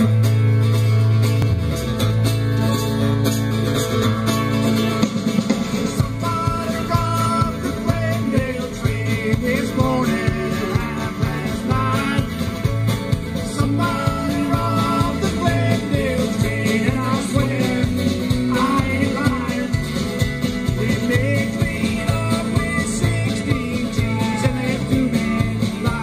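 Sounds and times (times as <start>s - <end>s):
band playing country-rock music: 0.0s - 26.0s.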